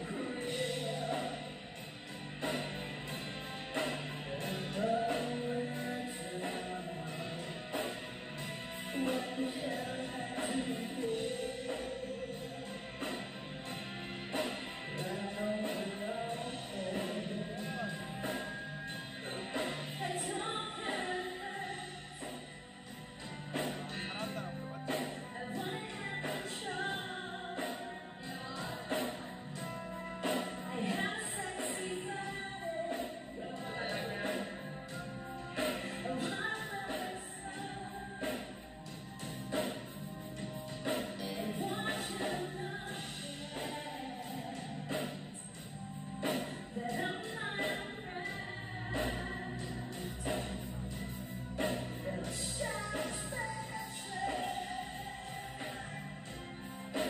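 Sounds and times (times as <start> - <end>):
person singing: 0.0 - 1.8, 3.8 - 8.0, 8.8 - 13.2, 14.7 - 22.3, 23.8 - 38.9, 41.2 - 57.0
electric guitars: 0.0 - 57.0
keyboard: 0.0 - 57.0.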